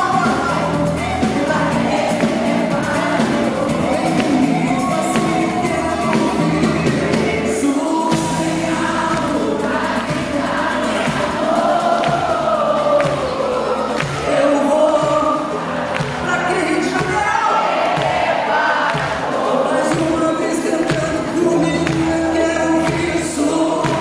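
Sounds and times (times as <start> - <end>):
live pop band playing: 0.0 - 24.0
person singing: 0.0 - 24.0.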